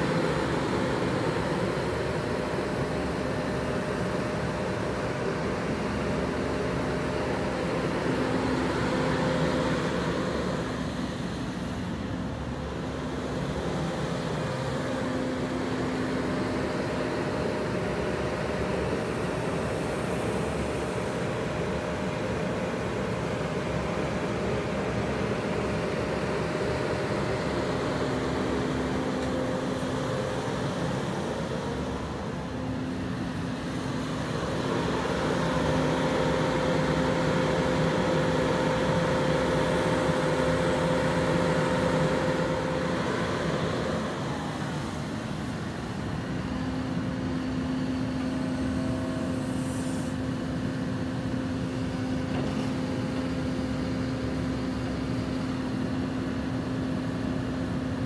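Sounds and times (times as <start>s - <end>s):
diesel engine with hydraulics: 0.0s - 58.0s.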